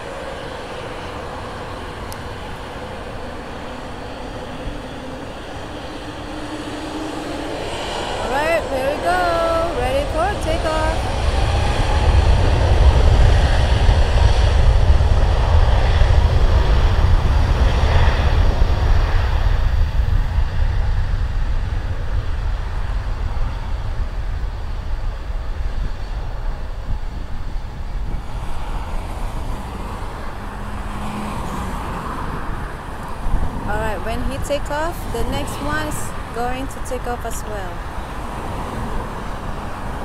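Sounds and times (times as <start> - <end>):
jet engines rumbling at takeoff: 0.0 - 40.0.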